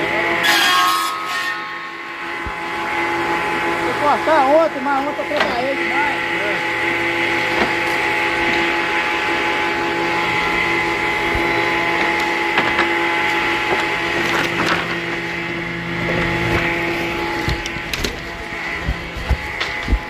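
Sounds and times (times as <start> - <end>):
circular saw running: 0.0 - 20.0.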